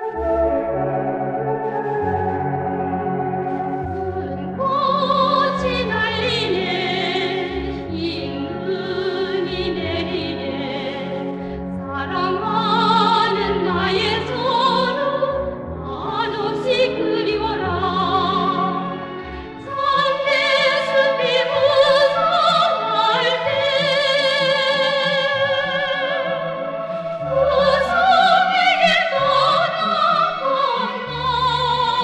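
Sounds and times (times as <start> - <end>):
operatic singing with vibrato: 0.0 - 32.0
orchestral accompaniment: 0.0 - 32.0.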